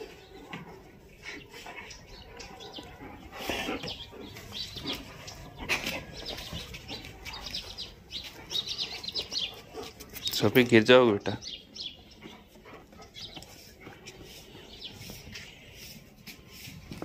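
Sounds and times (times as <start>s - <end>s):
dogs play-wrestling: 0.0s - 10.4s, 11.7s - 17.0s
small birds chirping: 0.0s - 17.0s.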